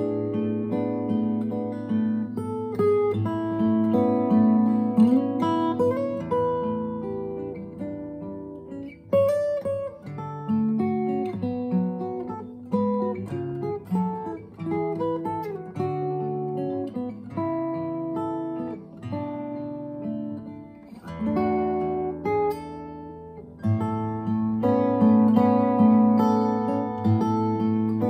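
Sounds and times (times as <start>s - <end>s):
fingerstyle acoustic guitar: 0.0s - 28.0s.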